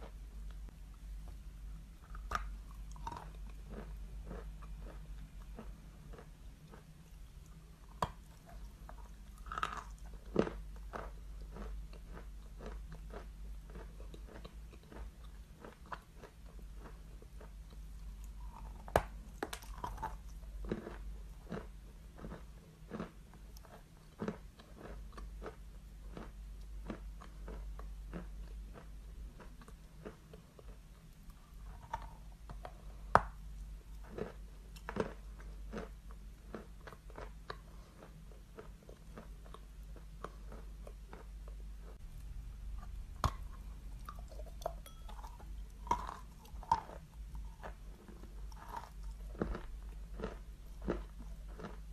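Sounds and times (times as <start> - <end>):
person chewing chalk: 0.0 - 51.9.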